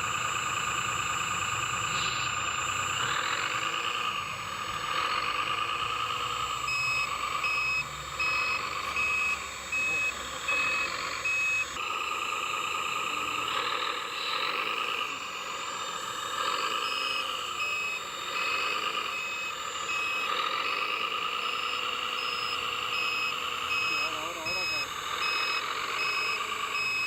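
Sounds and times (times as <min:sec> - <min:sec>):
electric motors and gears whining: 0:00.0 - 0:27.0
reverse-warning beeper: 0:00.0 - 0:27.0.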